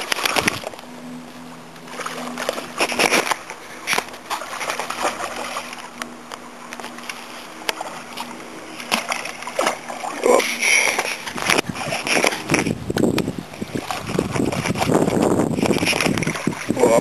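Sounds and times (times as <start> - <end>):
fish splashing in water: 1.9 - 6.0, 6.7 - 12.8, 13.6 - 17.0.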